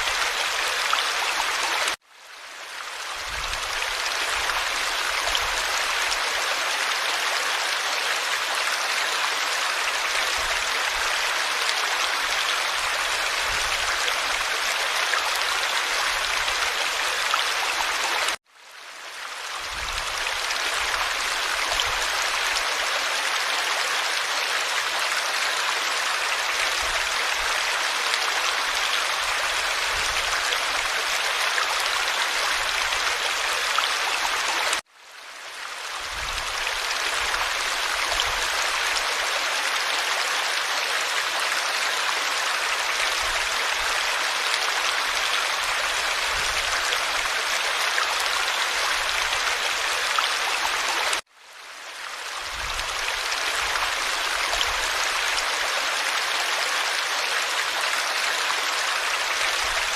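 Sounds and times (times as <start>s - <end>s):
forest stream flowing: 0.0s - 59.9s.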